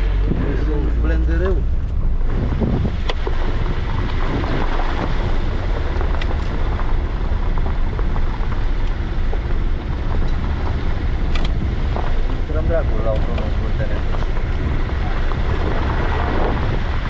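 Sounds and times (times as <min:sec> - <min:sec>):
engine and tyres rumbling: 0:00.0 - 0:17.0
wind buffeting microphone: 0:00.0 - 0:17.0.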